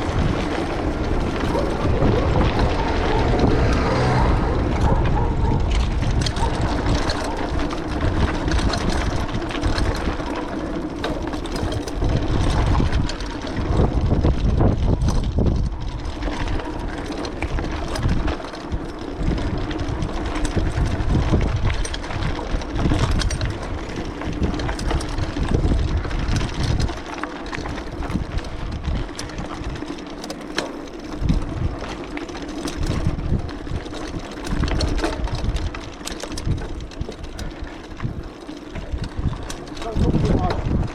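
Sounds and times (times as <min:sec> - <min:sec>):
wind buffeting microphone: 0:00.0 - 0:29.9, 0:31.1 - 0:40.9
bicycle tyres and drivetrain hum: 0:00.0 - 0:40.9.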